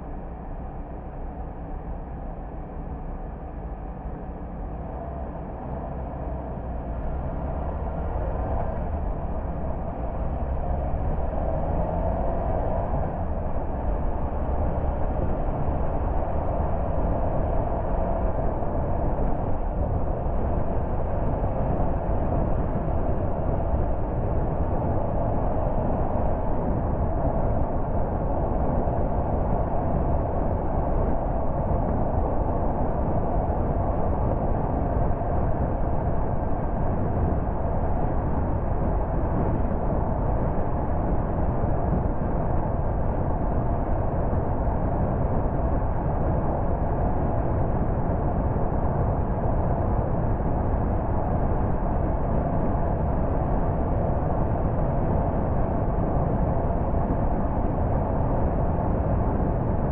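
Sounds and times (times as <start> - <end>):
car road noise: 0.0 - 59.9.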